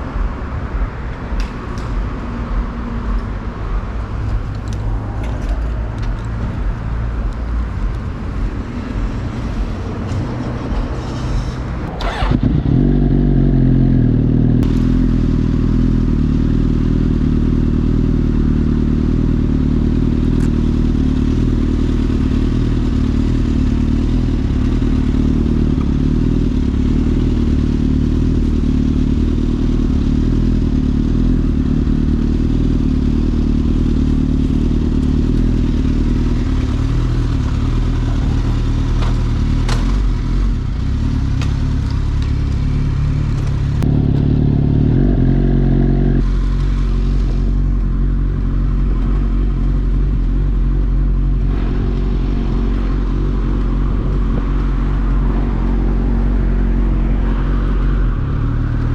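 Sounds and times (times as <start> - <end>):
motorcycle engine running: 0.0 - 58.9
sharp exhaust cracks: 4.4 - 17.4, 18.5 - 58.9.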